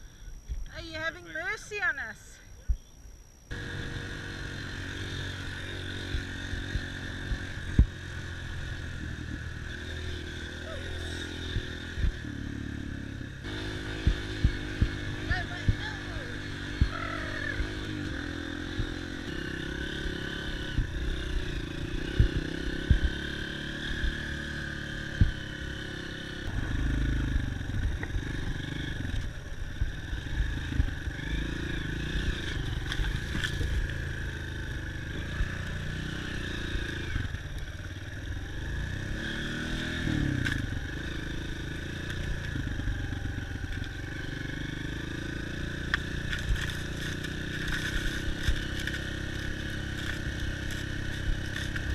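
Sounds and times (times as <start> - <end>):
dirt bike engine revving: 3.5 - 51.9.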